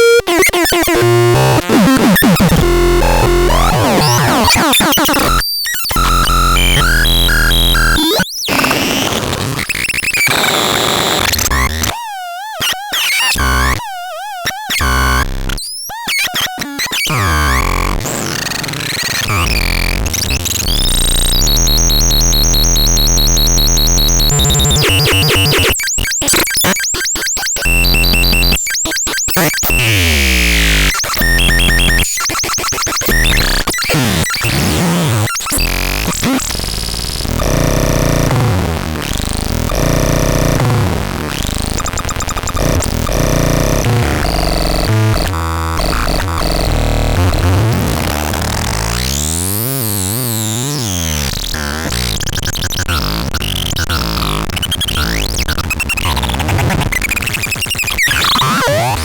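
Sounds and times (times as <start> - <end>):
harsh glitchy synthesizer: 0.0 - 11.9, 16.2 - 59.0.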